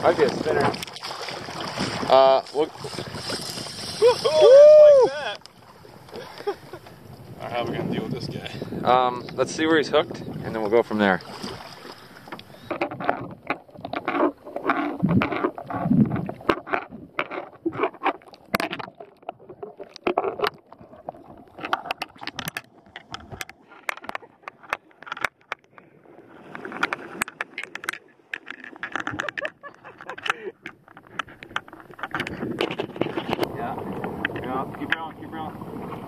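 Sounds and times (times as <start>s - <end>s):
underwater clicks and crackles: 0.0s - 4.3s, 5.2s - 36.0s
water sloshing and splashing: 0.0s - 4.5s, 5.1s - 36.0s.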